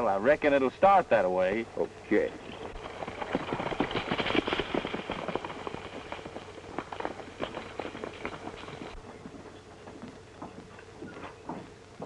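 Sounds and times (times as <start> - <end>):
horses' hooves clattering: 0.0 - 12.0.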